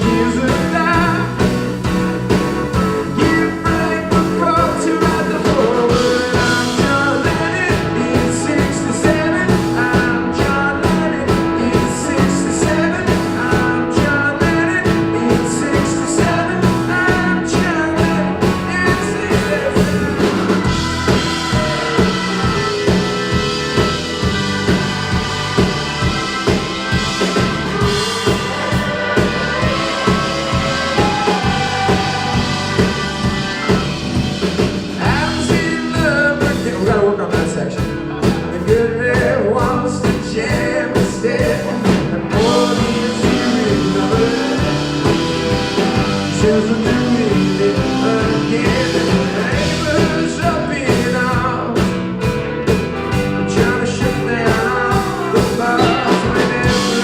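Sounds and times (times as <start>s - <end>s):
bass guitar: 0.0s - 57.0s
drum kit: 0.0s - 57.0s
electric guitars: 0.0s - 57.0s
wavering lead guitar line: 0.0s - 57.0s.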